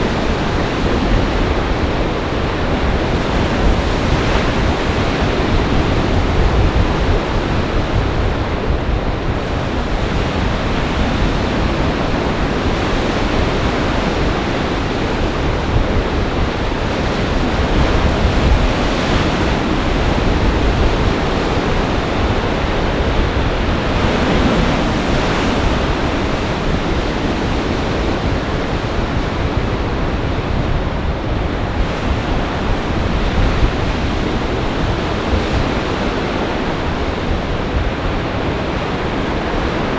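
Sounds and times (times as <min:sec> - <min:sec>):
surf pounding: 0:00.0 - 0:39.9
wind buffeting microphone: 0:00.0 - 0:39.9.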